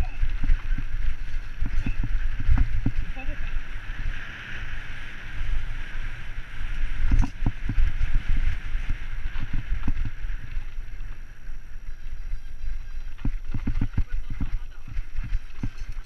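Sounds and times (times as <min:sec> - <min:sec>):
bike tyres rumbling: 0:00.0 - 0:16.0
wind buffeting microphone: 0:00.0 - 0:16.0.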